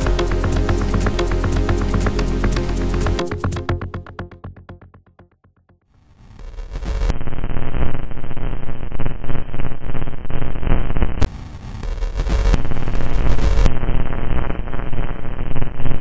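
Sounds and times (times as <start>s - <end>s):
harsh crackling electronic noise: 0.0s - 4.6s, 6.3s - 16.0s.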